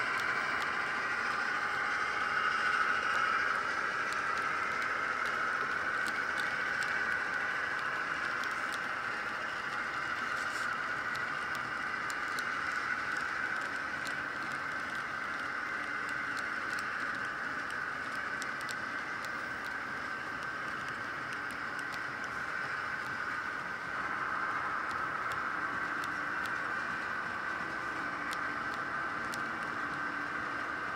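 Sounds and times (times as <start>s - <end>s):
model train whirring: 0.0s - 30.9s
wheels clicking on rail: 0.0s - 30.9s.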